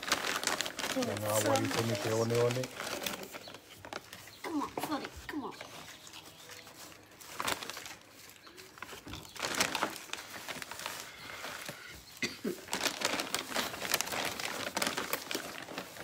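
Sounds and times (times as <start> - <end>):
plastic trays rustling and crinkling: 0.0 - 16.0.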